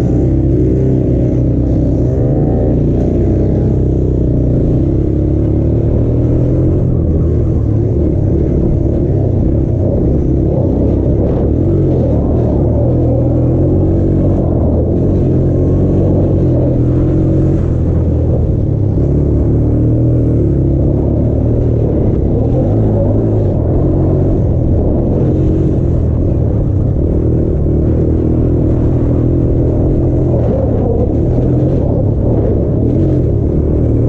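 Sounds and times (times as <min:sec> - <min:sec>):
off-road engine revving: 0:00.0 - 0:34.0.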